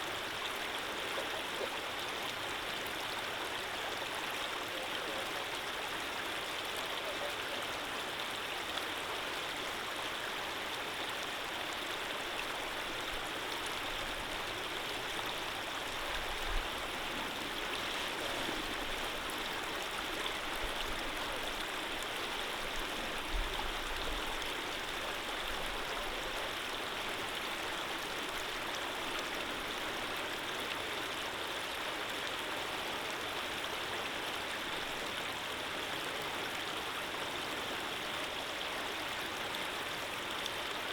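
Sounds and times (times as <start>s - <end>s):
stream of running water: 0.0s - 40.9s.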